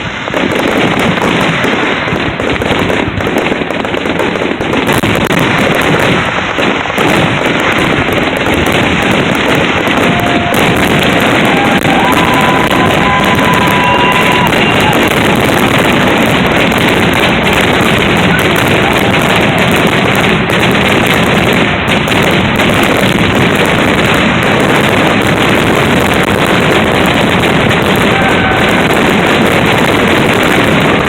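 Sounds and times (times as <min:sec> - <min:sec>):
fireworks booming and crackling: 0:00.0 - 0:31.0.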